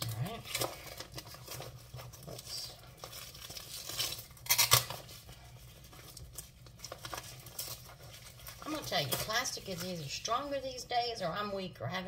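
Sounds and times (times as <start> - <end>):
plastic wrap crinkling and ripping: 0.0 - 11.0.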